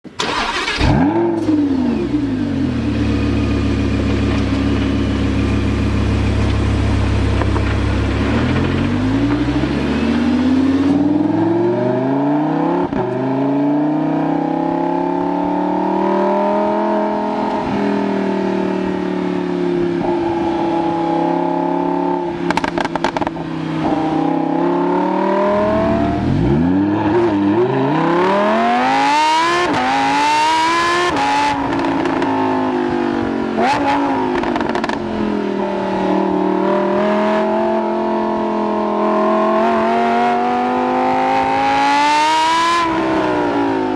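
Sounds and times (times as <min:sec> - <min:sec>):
sports car engine revving: 0:00.4 - 0:18.9, 0:19.5 - 0:43.9.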